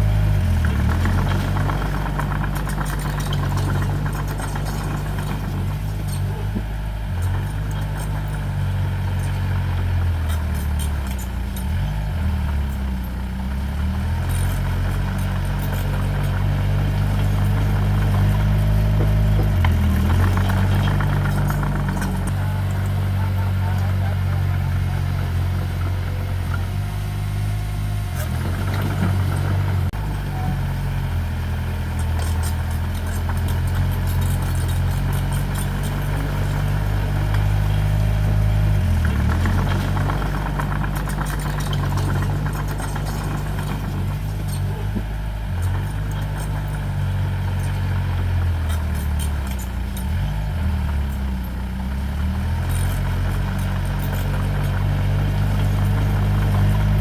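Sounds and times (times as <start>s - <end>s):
faint clatter: 0.0s - 26.8s, 28.1s - 57.0s
diesel engine running: 0.0s - 57.0s.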